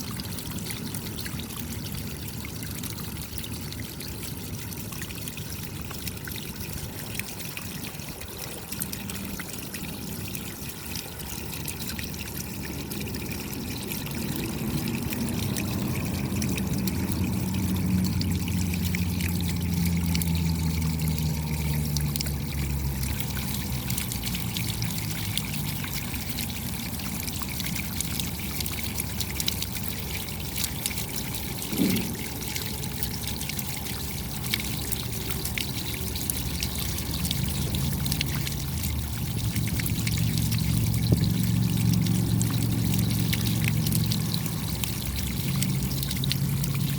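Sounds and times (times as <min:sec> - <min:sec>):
rain patter: 0:00.0 - 0:46.9
trickling water: 0:00.0 - 0:46.9.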